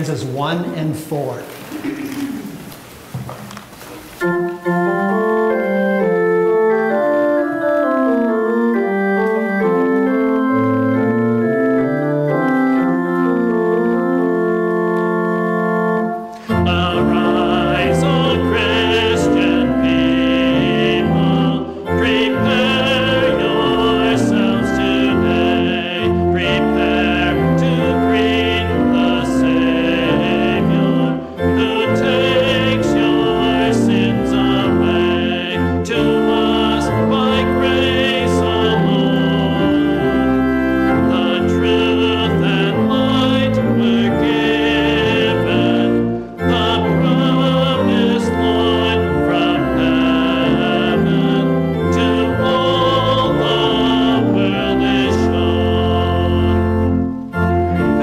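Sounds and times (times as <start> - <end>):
church organ playing a hymn: 3.5 - 58.0.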